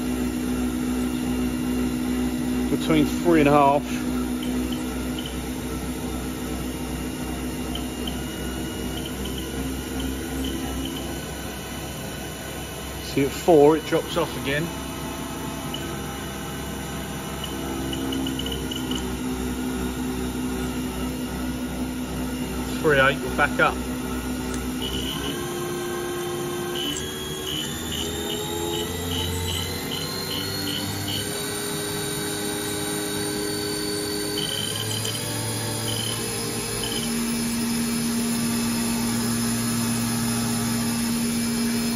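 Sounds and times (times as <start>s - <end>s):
mill spindle humming with throb: 0.0s - 41.9s.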